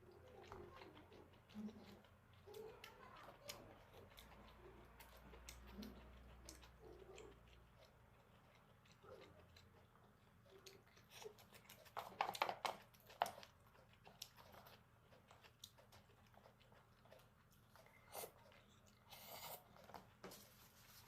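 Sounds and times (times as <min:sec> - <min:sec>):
wet chewing and biting: 0:00.0 - 0:20.3.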